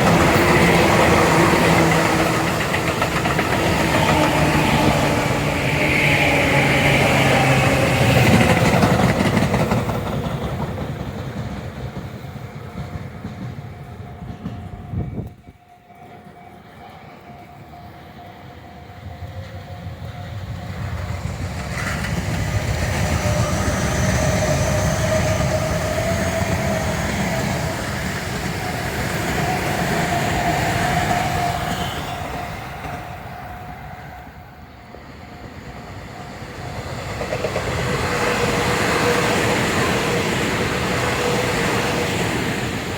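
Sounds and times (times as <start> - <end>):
train wheels clattering on rails: 0.0 - 33.5, 34.9 - 42.9.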